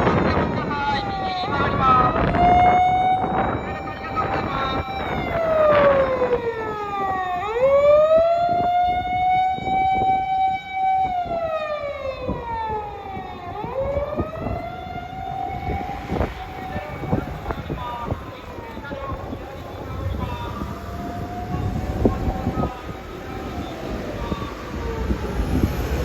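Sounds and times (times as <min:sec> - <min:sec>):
traffic noise: 0:00.0 - 0:26.0
wailing siren: 0:00.0 - 0:26.0.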